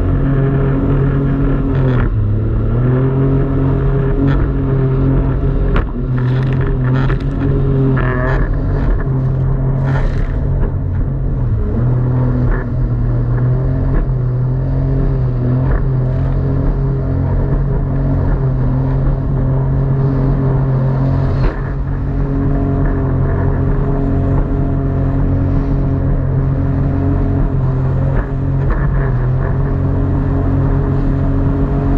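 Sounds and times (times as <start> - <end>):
jet ski engine running: 0.0 - 31.9.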